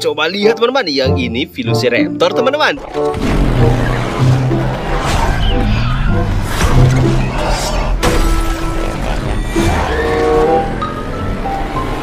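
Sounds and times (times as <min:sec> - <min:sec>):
film music: 0:00.0 - 0:12.0
tyres skidding: 0:02.4 - 0:12.0.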